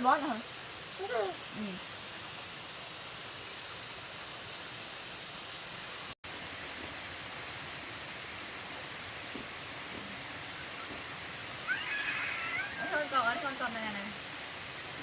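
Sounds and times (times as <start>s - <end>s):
ambient hiss: 0.0s - 15.0s.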